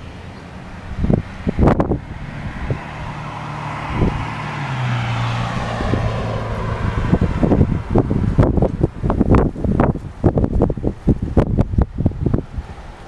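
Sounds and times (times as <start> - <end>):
car passing: 0.0 - 13.0
wind buffeting microphone: 0.0 - 13.0.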